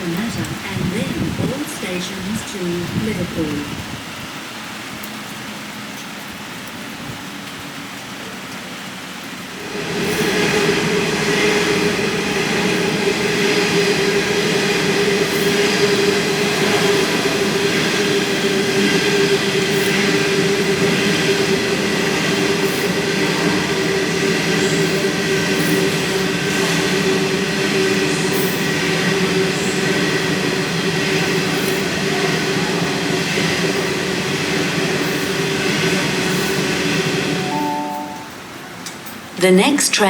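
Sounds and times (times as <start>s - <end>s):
electric train hum and whine: 0.0s - 40.0s.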